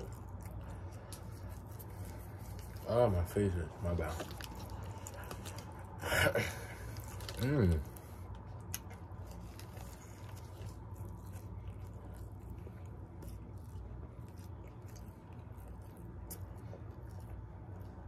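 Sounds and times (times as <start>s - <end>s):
low steady hum: 0.0s - 18.0s
person chewing: 0.0s - 18.0s.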